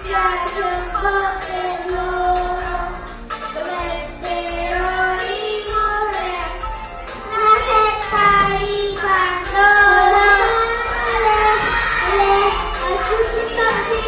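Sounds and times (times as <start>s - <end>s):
children singing: 0.0s - 14.0s
musical accompaniment: 0.0s - 14.0s.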